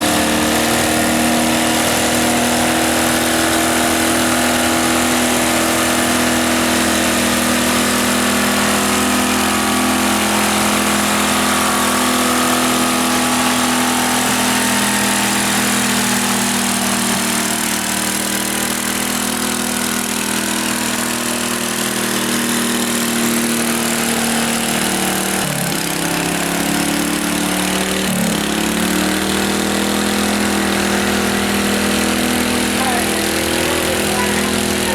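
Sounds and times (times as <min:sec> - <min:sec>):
lawn tractor engine running: 0:00.0 - 0:34.9.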